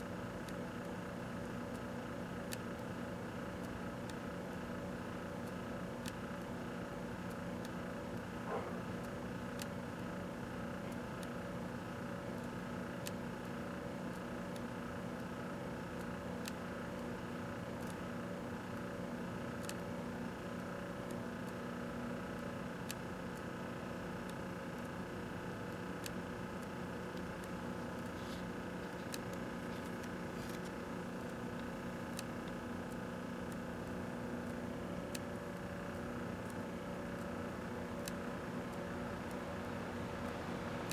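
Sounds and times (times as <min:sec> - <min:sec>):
microwave oven humming: 0:00.0 - 0:40.9.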